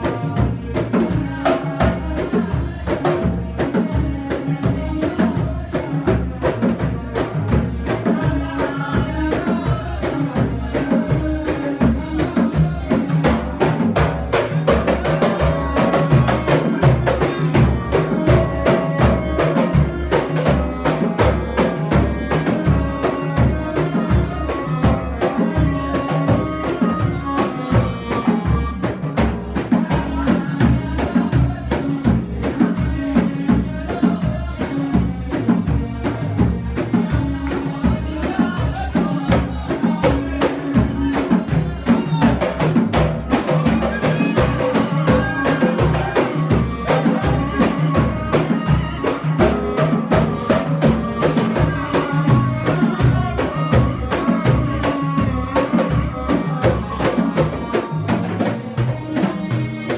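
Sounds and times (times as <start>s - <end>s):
frame drums beaten in rhythm: 0.0s - 59.9s
group of voices singing: 0.0s - 59.9s.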